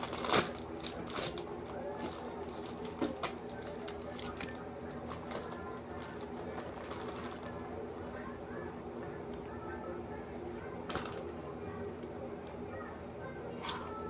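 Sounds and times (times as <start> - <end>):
faint voice: 0.4 - 14.0.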